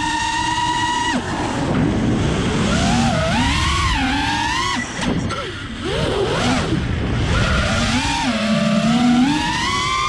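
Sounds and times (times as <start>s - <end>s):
quadcopter motors whining: 0.0s - 1.7s, 2.4s - 10.0s
wind rush on microphone: 0.7s - 10.0s.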